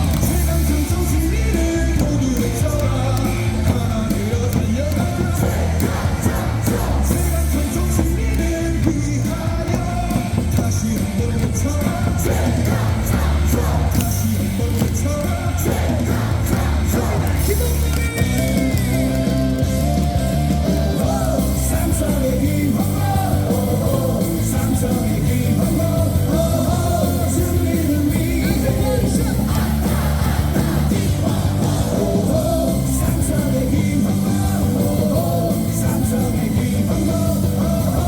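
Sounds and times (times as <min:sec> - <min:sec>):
cheering music with bass beat: 0:00.0 - 0:38.0
crowd singing and yelling: 0:00.0 - 0:38.0.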